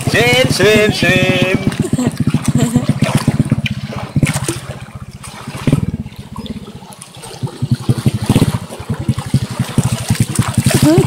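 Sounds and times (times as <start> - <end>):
low rumble: 0.0 - 11.0
water splashing and lapping: 0.0 - 11.0.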